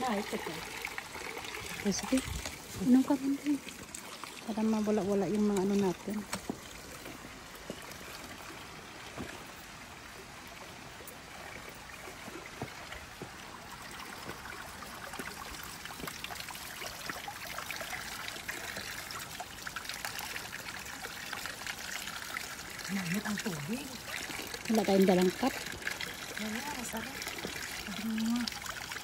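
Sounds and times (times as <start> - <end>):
water trickling into stone basin: 0.0 - 29.0.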